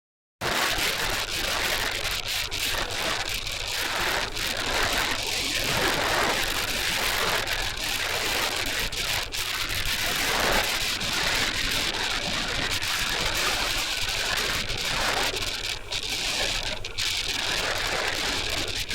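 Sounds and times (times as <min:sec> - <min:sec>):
strong wind on microphone: 0:00.4 - 0:18.9.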